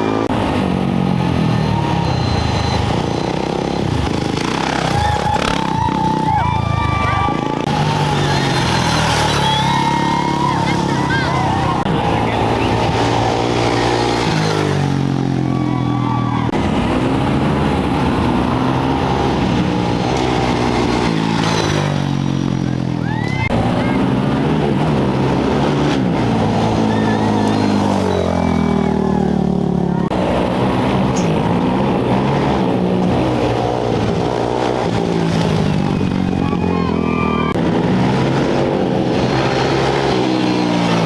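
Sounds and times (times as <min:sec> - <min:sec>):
motorcycle engines running: 0:00.0 - 0:41.0.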